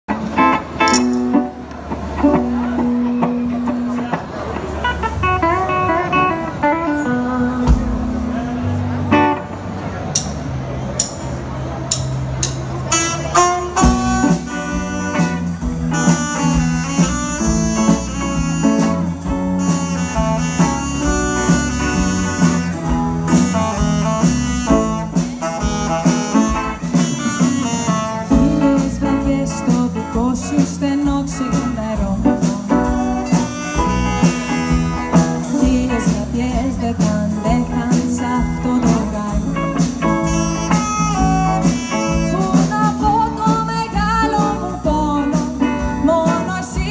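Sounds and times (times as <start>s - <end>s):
guitar: 0.0s - 46.9s
walking bass line: 0.0s - 46.9s
live swing band: 0.1s - 46.9s.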